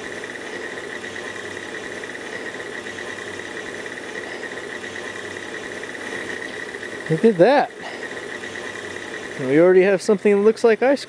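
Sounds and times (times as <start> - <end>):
electric stand mixer whining: 0.0 - 11.0.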